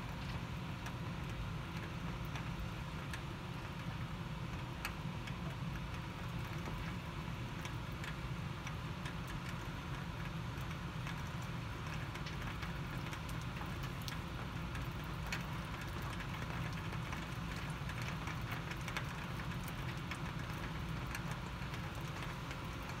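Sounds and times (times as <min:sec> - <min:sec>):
raindrops ticking close by: 0:00.0 - 0:23.0.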